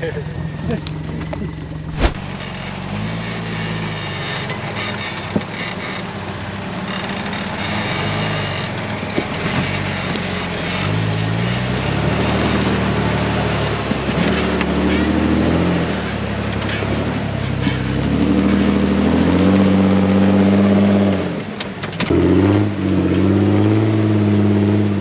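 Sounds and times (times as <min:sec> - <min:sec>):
off-road vehicle engine: 0:00.0 - 0:25.0.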